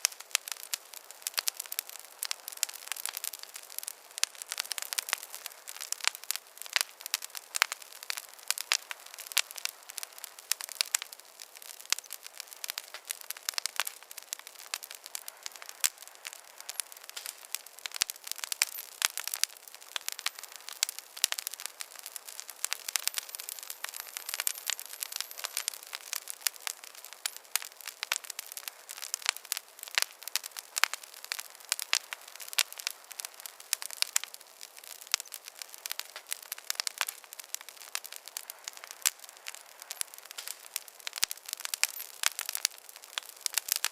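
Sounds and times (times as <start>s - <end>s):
burning wood hiss: 0.0s - 43.9s
campfire crackling and popping: 0.0s - 43.9s.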